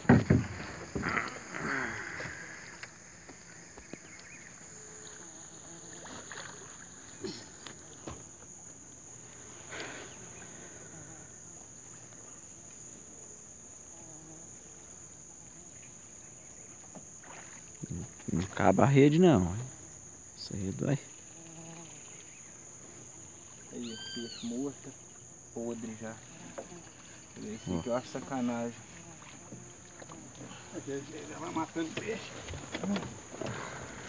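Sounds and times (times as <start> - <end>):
high-pitched insect buzz: 0.6 - 31.7.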